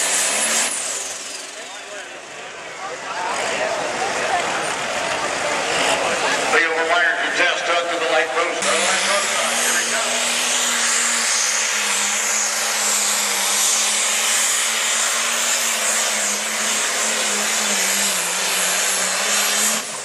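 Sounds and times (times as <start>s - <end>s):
tractor diesel engine under full load: 0.0s - 20.0s.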